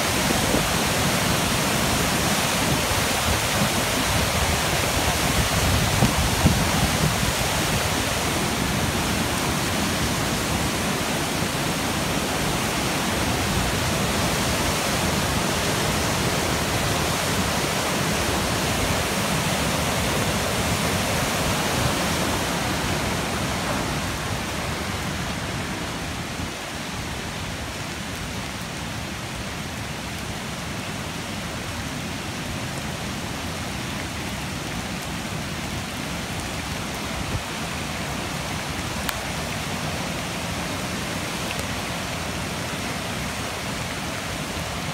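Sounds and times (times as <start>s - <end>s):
roar of rushing floodwater: 0.0s - 44.9s.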